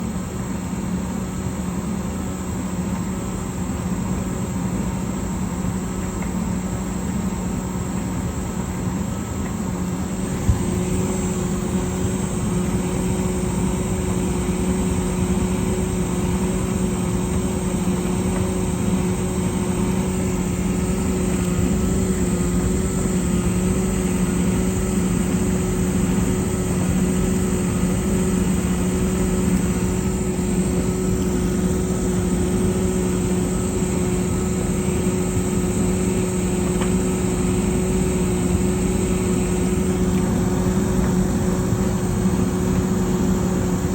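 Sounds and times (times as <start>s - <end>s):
tumble dryer humming: 0.0s - 43.9s.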